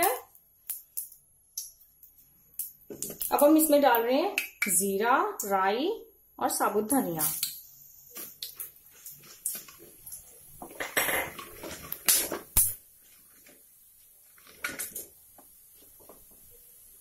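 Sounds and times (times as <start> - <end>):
seeds crackling in hot oil: 0.0 - 5.8, 6.8 - 17.0.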